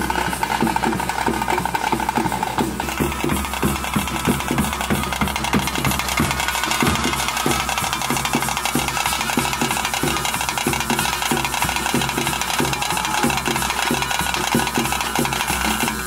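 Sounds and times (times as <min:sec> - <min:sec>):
drums beating fast rhythm: 0:00.0 - 0:16.0
held high wind instrument note: 0:00.0 - 0:16.0.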